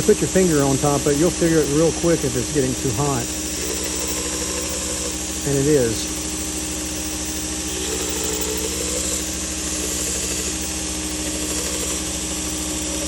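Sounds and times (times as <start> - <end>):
belt grinder motor hum: 0.0 - 13.0.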